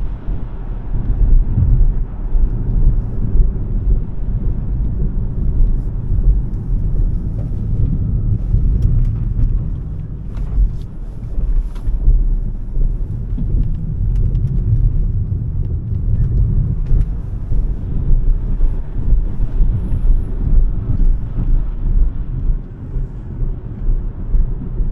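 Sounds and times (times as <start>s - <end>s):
tyre and wind noise rumble: 0.0s - 24.9s.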